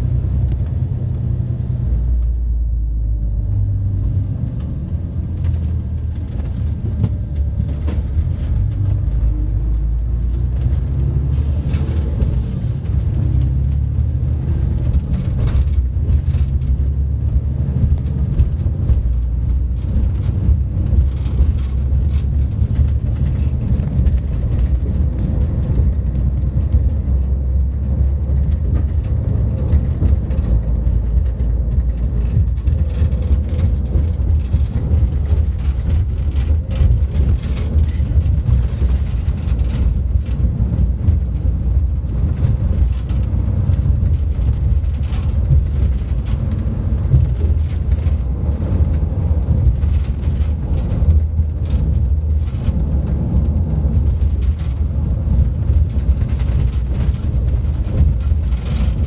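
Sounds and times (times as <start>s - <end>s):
vehicle engine and tyres rumbling: 0.0s - 59.0s.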